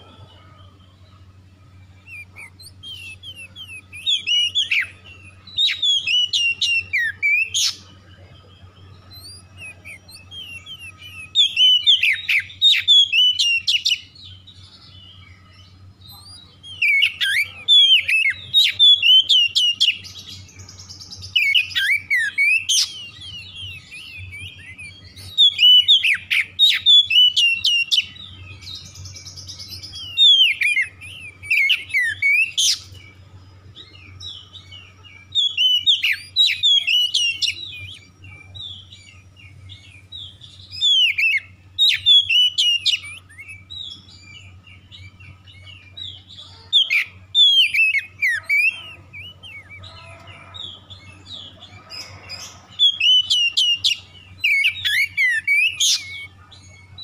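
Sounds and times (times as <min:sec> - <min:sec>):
bird singing whistles and chatter: 0:00.0 - 0:57.0
steady low hum: 0:00.0 - 0:57.0.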